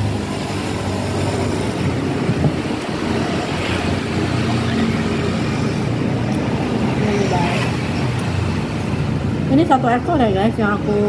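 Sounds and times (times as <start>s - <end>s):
traffic with low engine hum: 0.0s - 11.0s.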